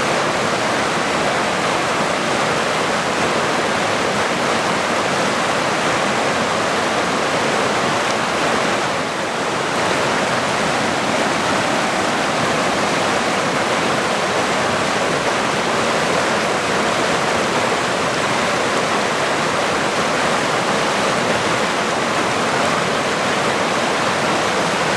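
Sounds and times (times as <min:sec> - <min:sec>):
water rushing in a torrent: 0:00.0 - 0:24.9.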